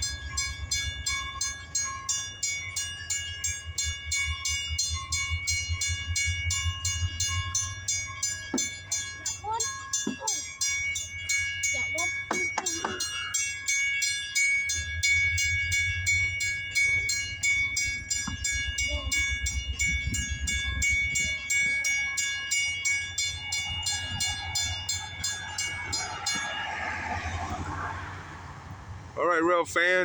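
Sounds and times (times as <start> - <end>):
crossing bell dinging: 0.0 - 30.0
locomotive diesel engine rumbling: 0.0 - 30.0
rushing rail noise: 0.0 - 30.0.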